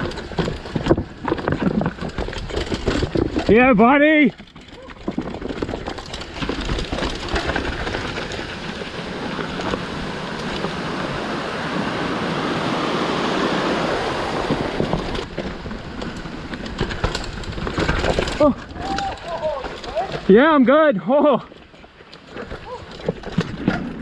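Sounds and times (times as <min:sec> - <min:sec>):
bike rattling and knocking: 0:00.0 - 0:11.4, 0:13.7 - 0:24.0
bike tyres rolling over rocks: 0:00.0 - 0:24.0.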